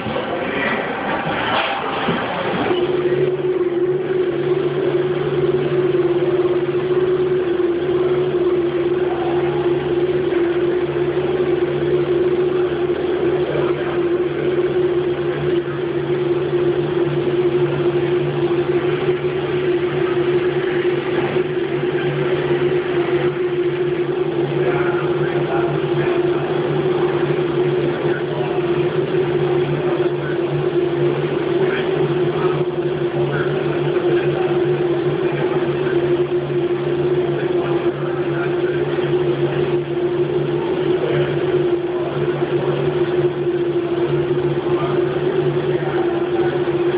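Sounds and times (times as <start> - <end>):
machine hum with whine: 0.0 - 46.9.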